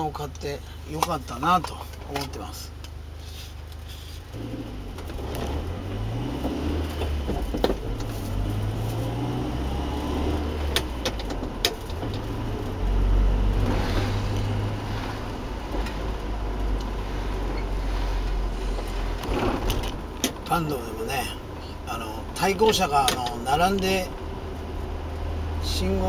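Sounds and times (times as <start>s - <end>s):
car engine accelerating: 3.7s - 26.0s.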